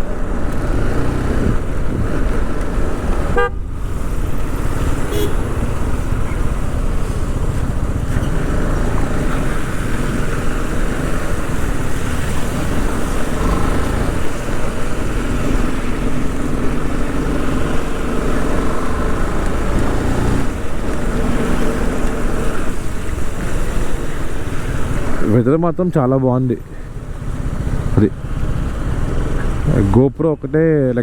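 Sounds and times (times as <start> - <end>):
motorcycle engine running: 0.0 - 25.4, 26.4 - 30.0
wind and road noise: 0.0 - 31.0.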